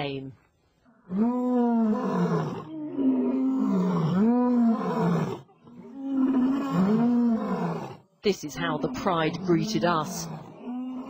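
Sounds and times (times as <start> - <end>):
lions roaring: 1.1 - 8.0, 8.8 - 11.0.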